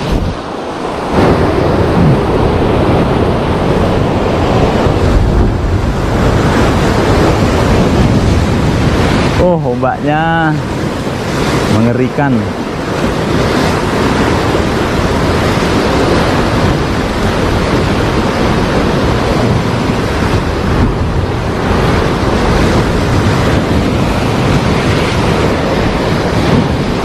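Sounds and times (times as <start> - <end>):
waves breaking on shore: 0.0 - 27.0
wind on microphone: 0.0 - 27.0.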